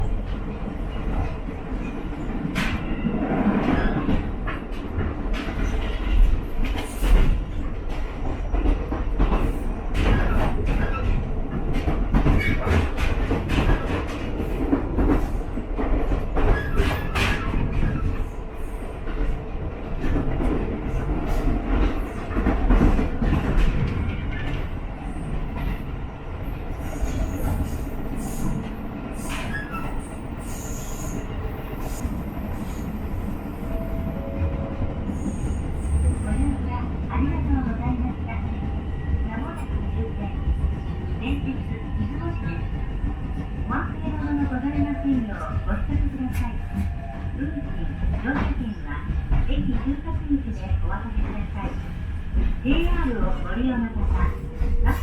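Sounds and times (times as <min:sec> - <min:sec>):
railcar running rumble: 0:00.0 - 0:55.0.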